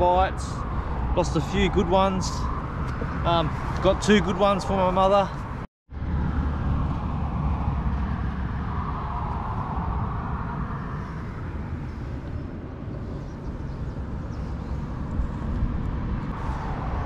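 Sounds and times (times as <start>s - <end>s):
vehicle passing: 0.0s - 12.3s, 14.8s - 17.0s
traffic rumble on bridge: 0.0s - 17.0s.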